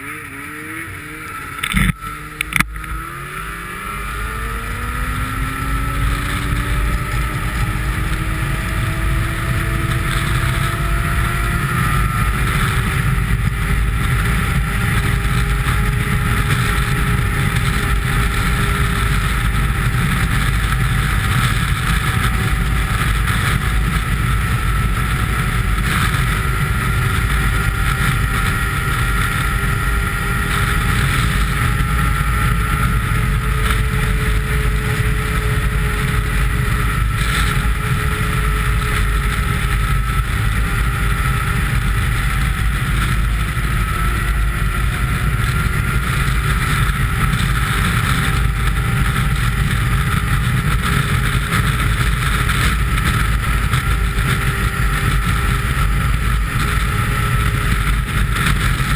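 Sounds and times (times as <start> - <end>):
snowmobile engine running: 0.0 - 58.9
wind rumble on microphone: 0.0 - 58.9.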